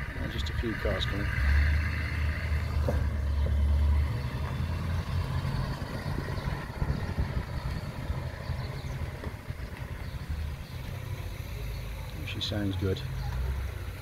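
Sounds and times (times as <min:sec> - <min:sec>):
vehicle engine driving away: 0:00.0 - 0:14.0.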